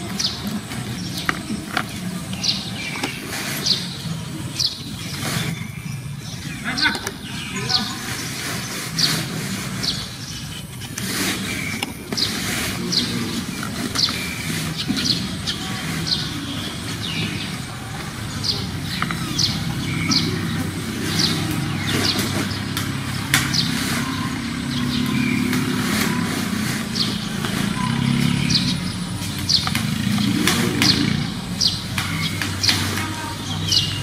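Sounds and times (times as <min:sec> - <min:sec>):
bird chirps: 0:00.0 - 0:34.0.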